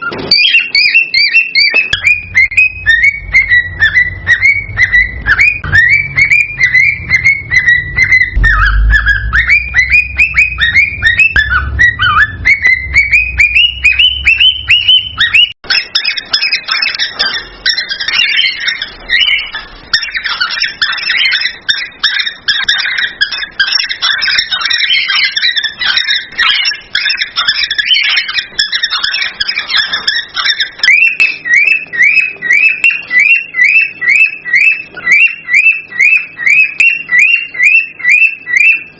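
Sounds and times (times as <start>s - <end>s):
cockatiel whistling song: 0.0s - 38.9s
cockatiels chattering chirps: 0.0s - 38.9s.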